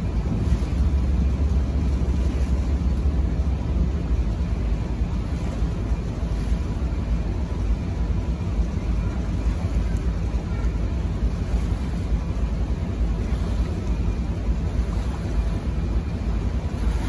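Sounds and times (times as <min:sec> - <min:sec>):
ferry engine rumble: 0:00.0 - 0:17.0
wind on microphone: 0:00.0 - 0:17.0.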